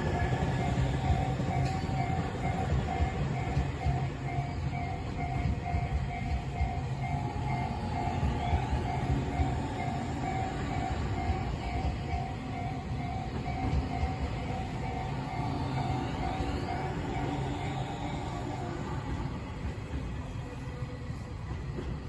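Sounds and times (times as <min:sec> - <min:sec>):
repeating ringing tone: 0:00.0 - 0:19.3
electric train rumbling past: 0:00.0 - 0:22.0
train wheel clatter: 0:00.0 - 0:22.0.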